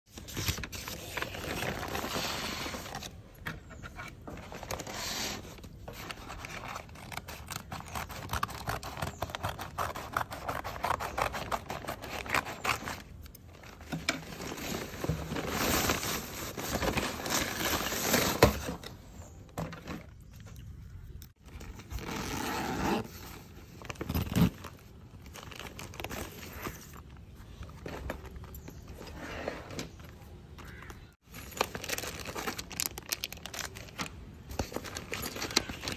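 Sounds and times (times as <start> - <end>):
packaging rustling and tearing: 0.1 - 19.0, 21.3 - 29.2, 31.2 - 35.9.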